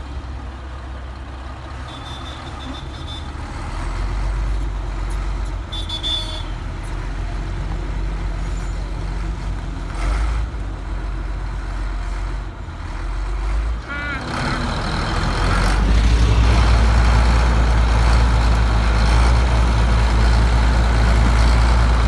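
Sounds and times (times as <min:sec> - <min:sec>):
bulldozer diesel engine rumbling: 0:00.0 - 0:22.0.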